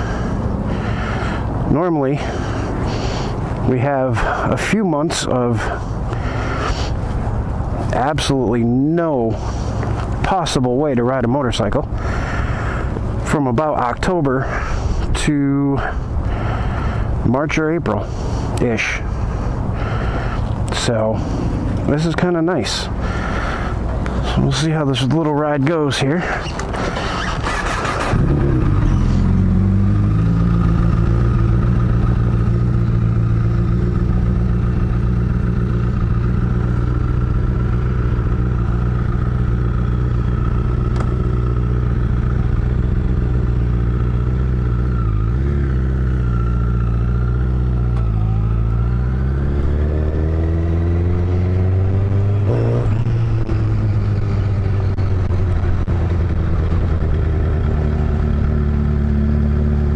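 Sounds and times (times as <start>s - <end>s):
motorcycle engine running: 0.0s - 8.0s, 18.0s - 59.9s.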